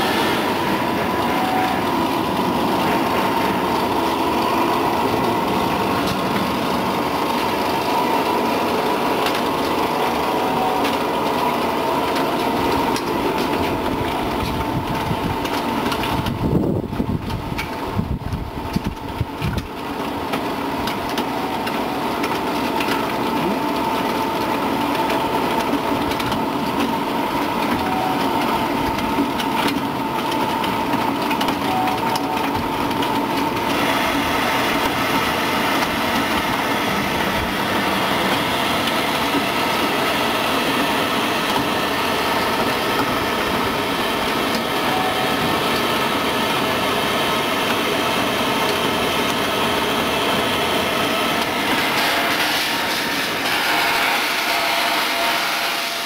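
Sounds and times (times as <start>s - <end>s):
conveyor machine noise: 0.0s - 56.0s.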